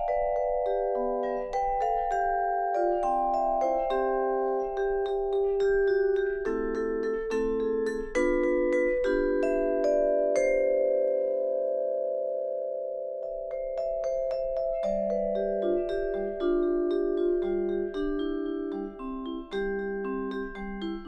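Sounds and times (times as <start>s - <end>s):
vibraphone chords: 0.0s - 21.0s.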